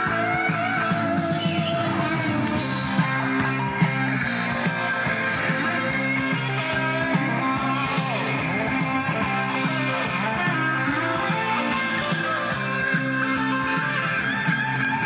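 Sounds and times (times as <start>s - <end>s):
guitar background music: 0.0s - 15.0s.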